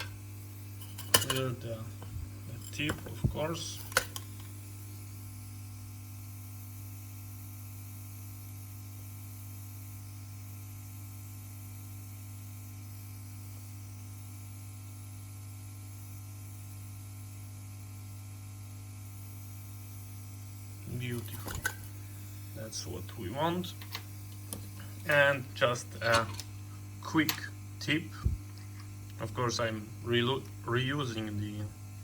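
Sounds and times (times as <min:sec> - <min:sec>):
electrical mains hum with hiss: 0:00.0 - 0:32.0.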